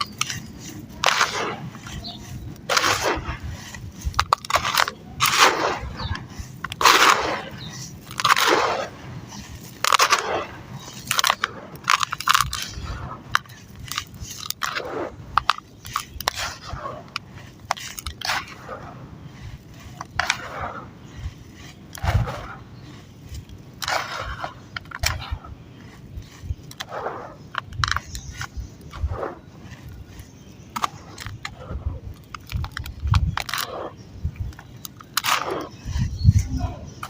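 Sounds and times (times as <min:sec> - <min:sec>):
sand and cement crumbling in water: 0:00.0 - 0:37.0
sliding sounds: 0:00.0 - 0:37.0.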